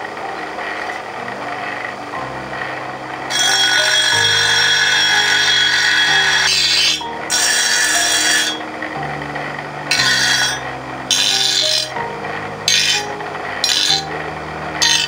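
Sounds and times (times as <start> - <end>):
bench grinder grinding steel: 0.6 - 15.0.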